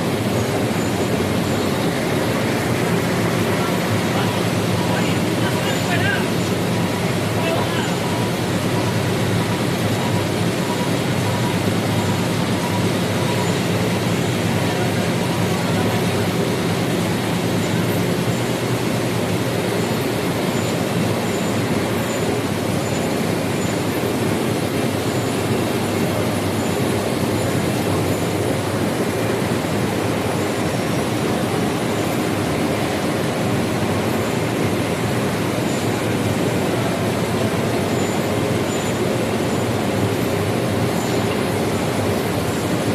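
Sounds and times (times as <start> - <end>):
low machine hum: 0.0 - 42.9
printing press running: 0.0 - 42.9.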